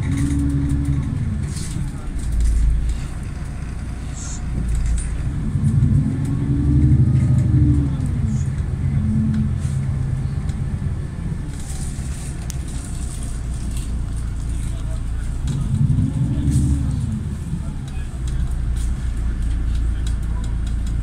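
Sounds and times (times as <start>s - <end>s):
bus drivetrain rumble: 0.0s - 21.0s
road noise: 0.0s - 21.0s.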